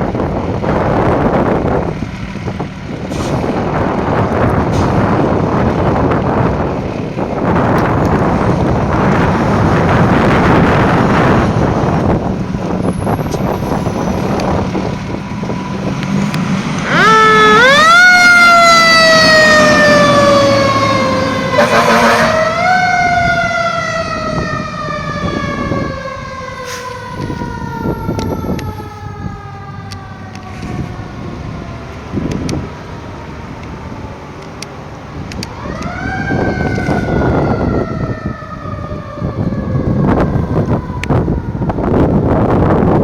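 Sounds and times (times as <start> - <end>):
fire truck siren wailing: 0.0 - 43.0
truck engine rumble: 0.0 - 43.0.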